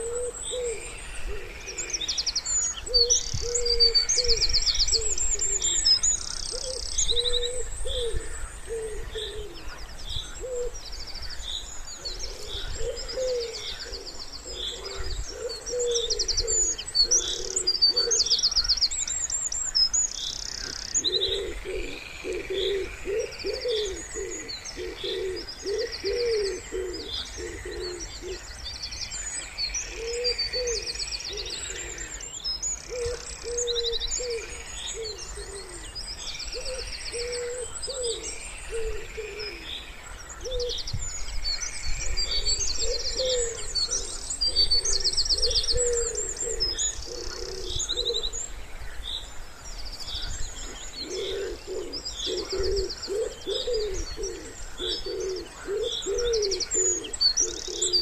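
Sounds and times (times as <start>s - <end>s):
wood pigeons cooing: 0.0s - 10.9s, 11.9s - 18.6s, 20.4s - 28.5s, 29.8s - 32.3s, 32.9s - 40.9s, 42.0s - 48.5s, 50.5s - 58.0s
songbirds chirping and trilling: 0.0s - 58.0s.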